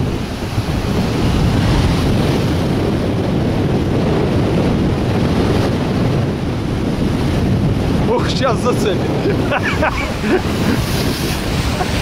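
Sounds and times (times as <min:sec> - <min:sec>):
waves breaking on shore: 0:00.0 - 0:12.0
wind buffeting microphone: 0:00.0 - 0:12.0.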